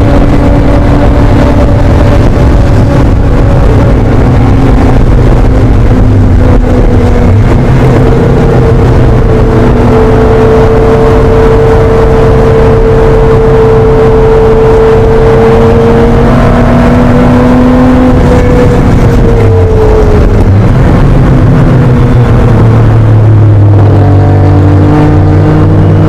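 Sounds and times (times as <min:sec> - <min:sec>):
car engine at high revs: 0:00.0 - 0:26.0.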